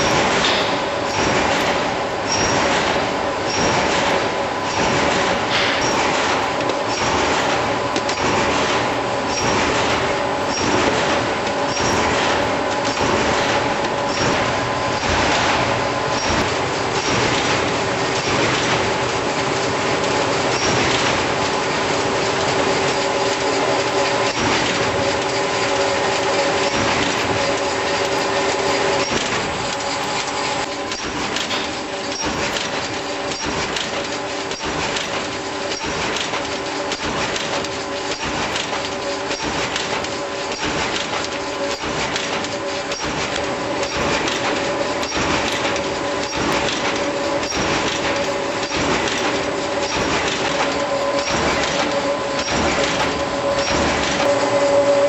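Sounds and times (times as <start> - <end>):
machine mechanical hum: 0.0 - 55.0
sheets clattering through machine: 0.0 - 55.0.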